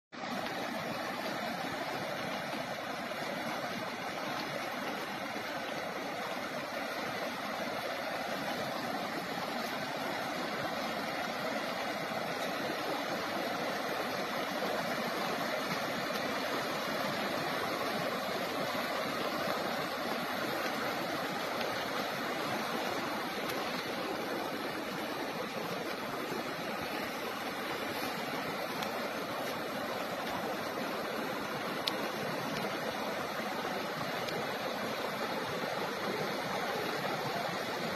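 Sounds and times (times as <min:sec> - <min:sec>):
floodwater rushing: 0:00.2 - 0:37.9.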